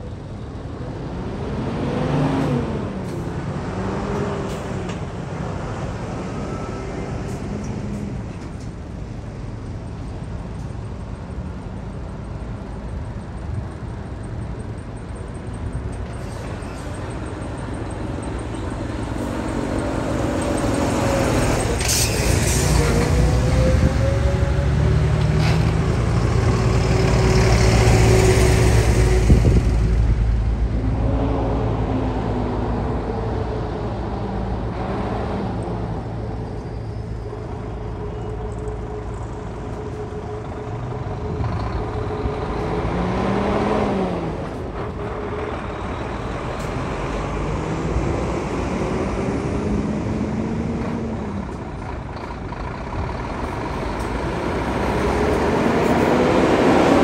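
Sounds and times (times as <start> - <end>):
diesel trucks driving past: 0.0 - 57.0.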